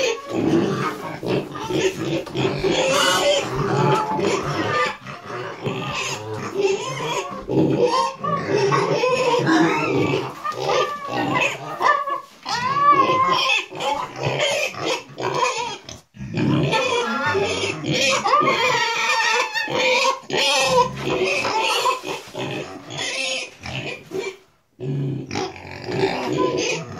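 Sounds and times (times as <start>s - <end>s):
pig calling: 0.0s - 26.9s.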